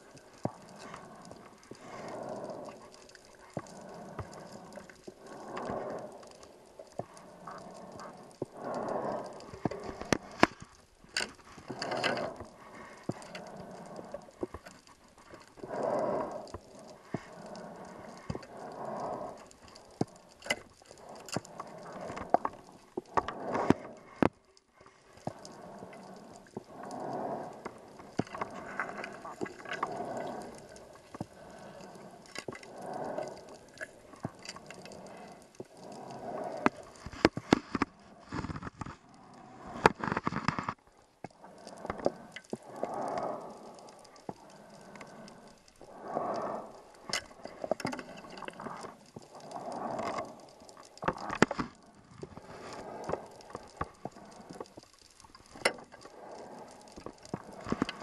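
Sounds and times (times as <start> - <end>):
diver breathing through regulator: 0.2 - 24.3, 24.9 - 54.8, 55.4 - 58.0.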